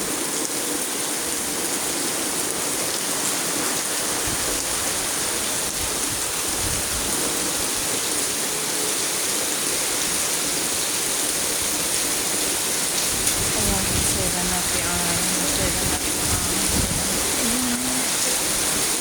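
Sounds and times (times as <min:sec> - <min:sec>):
heavy rain pattering: 0:00.0 - 0:19.0.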